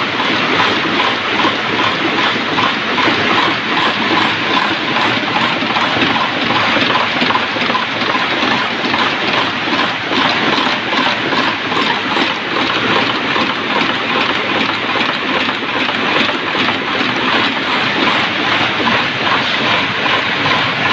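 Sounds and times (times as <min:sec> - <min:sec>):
heading machine clattering: 0:00.0 - 0:20.9.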